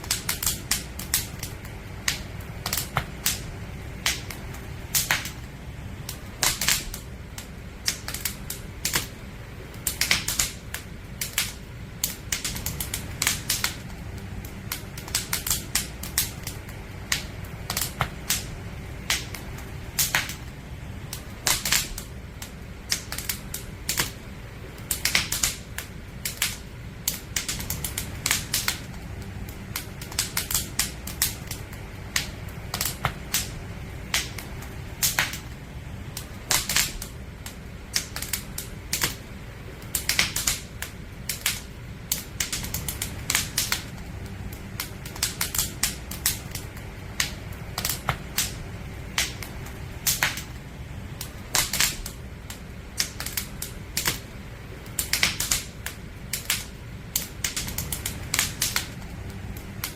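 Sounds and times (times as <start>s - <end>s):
campfire crackling and popping: 0.0s - 59.9s
low steady fire rumble: 0.0s - 59.9s.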